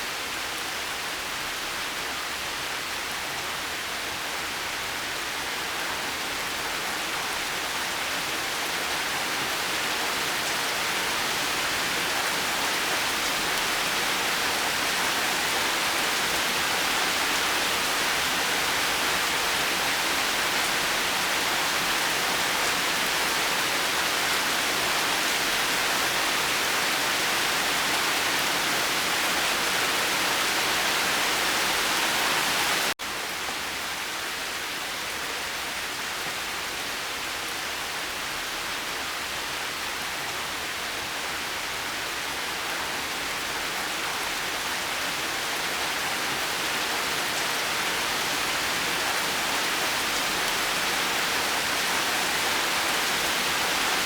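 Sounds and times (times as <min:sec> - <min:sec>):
dense rain falling: 0:00.1 - 0:54.0.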